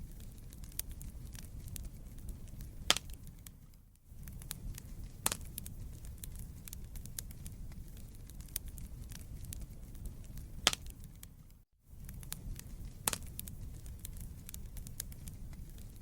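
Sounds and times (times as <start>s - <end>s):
loud fire pops: 0.0s - 16.0s
low rumble of flames: 0.0s - 16.0s
wood fire crackling: 0.0s - 16.0s.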